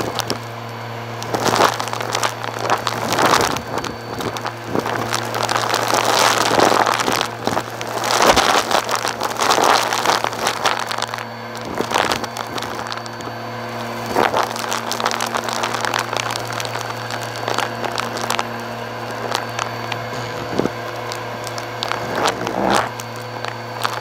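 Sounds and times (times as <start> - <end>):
debris crackling up vacuum hose: 0.0 - 24.0
vacuum motor hum: 0.0 - 24.0.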